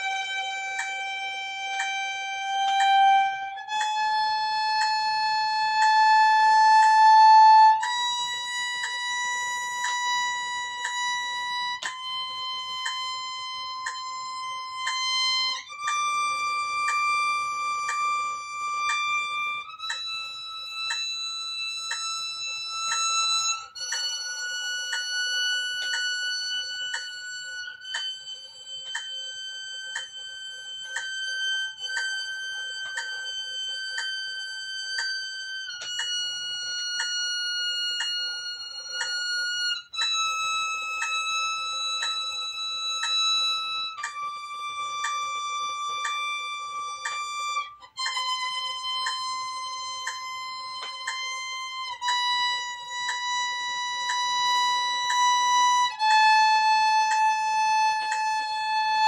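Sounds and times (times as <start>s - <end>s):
solo violin playing scale: 0.0s - 59.0s
steady faint ticking: 0.0s - 59.0s.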